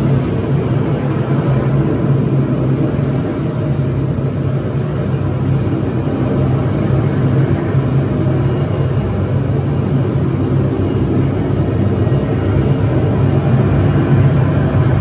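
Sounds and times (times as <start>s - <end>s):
jet engine roaring: 0.0s - 15.0s.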